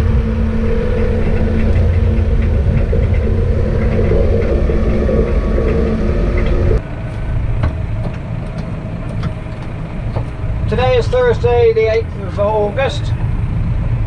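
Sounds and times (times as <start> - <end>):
farm vehicle engine running: 0.0 - 14.0.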